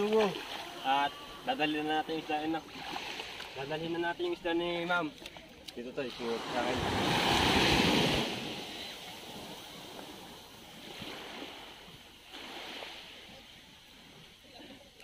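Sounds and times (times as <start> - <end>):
sea water lapping: 0.0 - 15.0.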